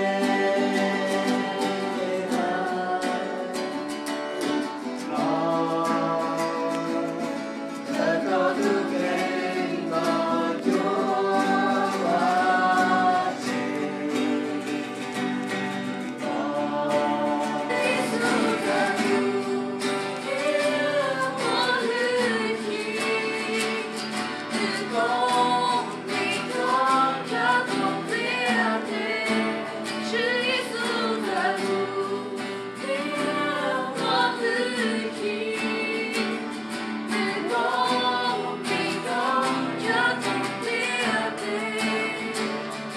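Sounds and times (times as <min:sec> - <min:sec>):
congregation singing a hymn: 0:00.0 - 0:42.9
strummed acoustic guitar: 0:00.0 - 0:42.9.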